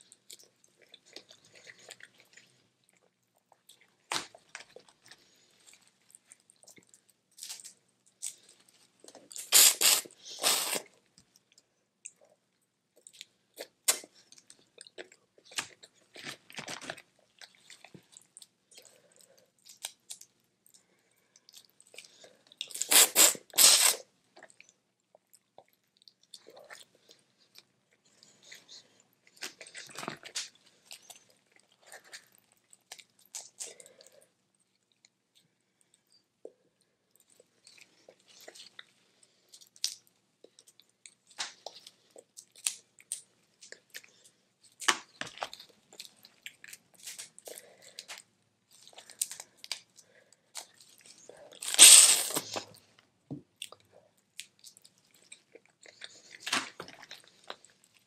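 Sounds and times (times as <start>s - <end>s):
chewing: 0.0s - 12.4s, 13.0s - 53.0s, 53.6s - 58.0s.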